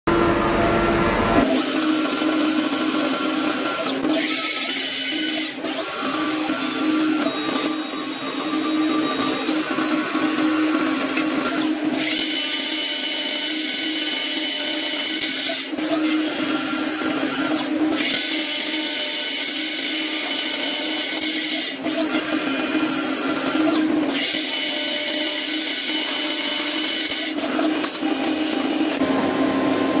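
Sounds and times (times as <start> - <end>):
machine hum: 0.1 - 30.0.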